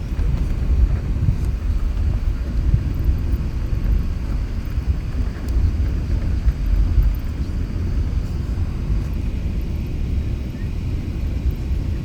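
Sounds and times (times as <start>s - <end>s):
low rumble inside airplane cabin: 0.0s - 12.0s.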